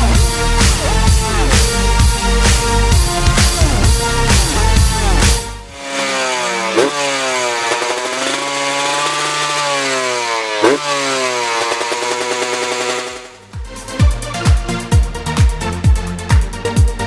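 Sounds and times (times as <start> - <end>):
dirt bike engine revving: 0.0 - 16.3.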